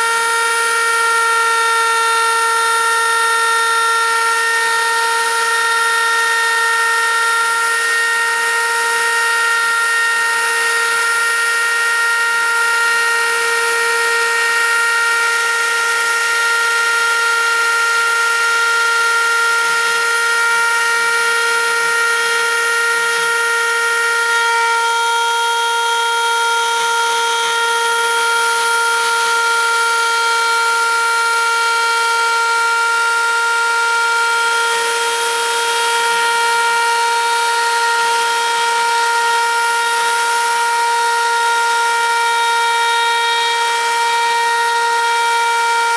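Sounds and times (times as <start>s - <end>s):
spindle motor high-pitched whine: 0.0s - 45.9s.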